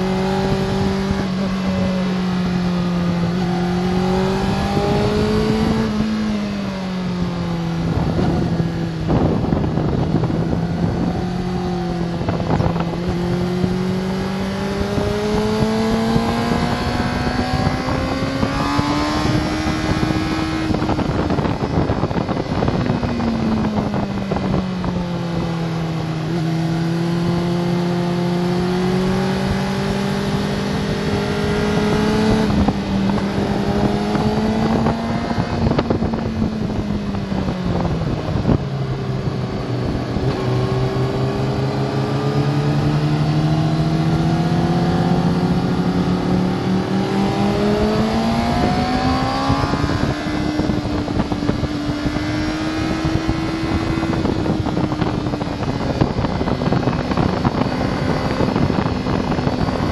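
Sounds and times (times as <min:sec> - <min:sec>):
motorcycle engine revving: 0:00.0 - 0:59.9
wind rushing on camera: 0:00.0 - 0:59.9.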